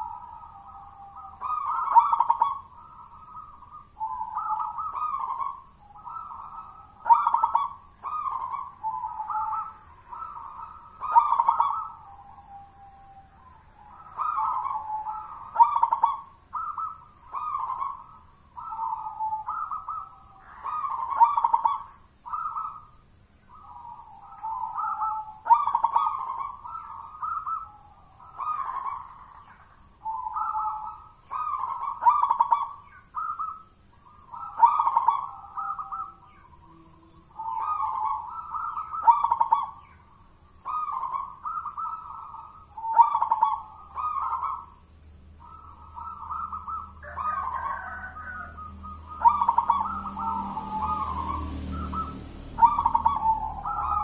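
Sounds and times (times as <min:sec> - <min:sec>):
dove cooing song: 0:00.0 - 0:54.0.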